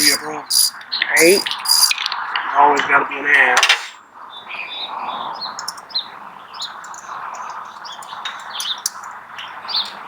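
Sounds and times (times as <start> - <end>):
small birds chirping: 0.0 - 2.5, 4.3 - 10.0
outdoor background noise: 0.0 - 10.0.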